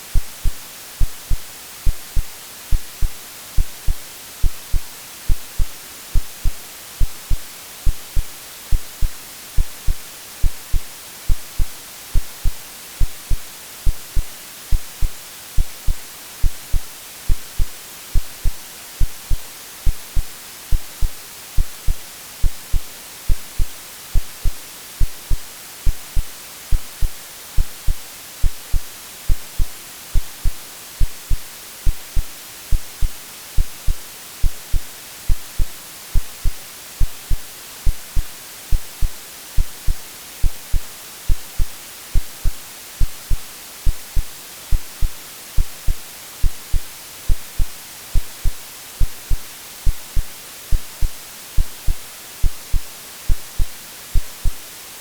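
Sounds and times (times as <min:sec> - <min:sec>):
white-noise hiss: 0:00.0 - 0:55.0
synthesized heartbeat thumps: 0:00.1 - 0:54.6.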